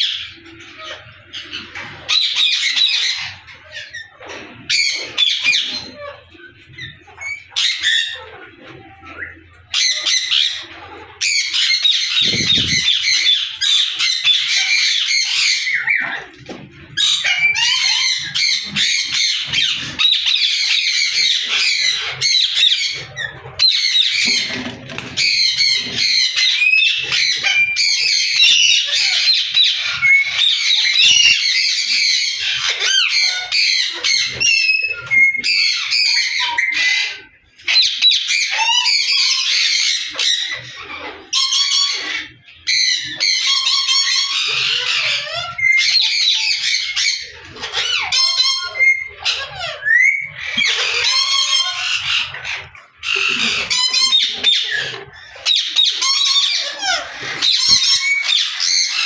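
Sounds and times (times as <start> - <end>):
parakeets squawking and chattering: 0.0 - 59.0.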